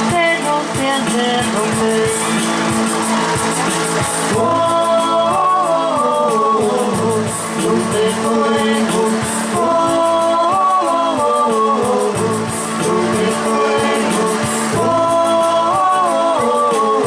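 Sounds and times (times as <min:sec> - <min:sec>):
steady drum beat: 0:00.0 - 0:16.9
guitar: 0:00.0 - 0:17.0
person singing long notes: 0:00.0 - 0:17.0.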